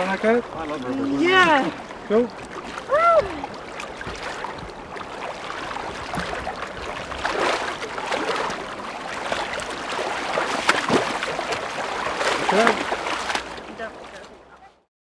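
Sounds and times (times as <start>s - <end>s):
people wading through water: 0.0s - 14.8s
river water running: 0.0s - 14.9s.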